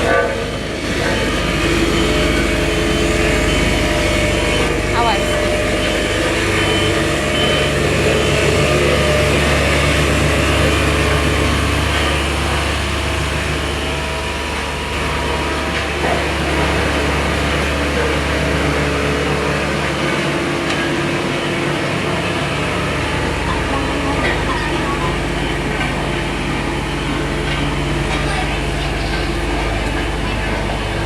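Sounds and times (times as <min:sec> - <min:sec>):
heavy machinery engine humming: 0:00.0 - 0:31.0.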